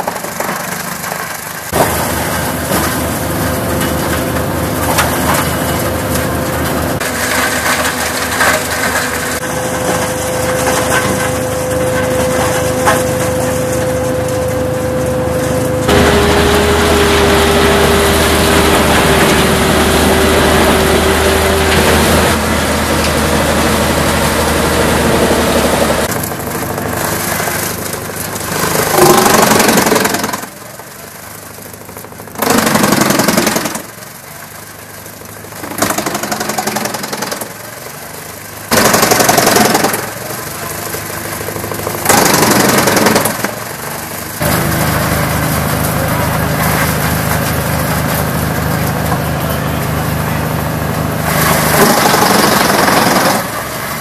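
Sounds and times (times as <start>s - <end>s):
wood chipper chipping logs: 0.0s - 54.0s.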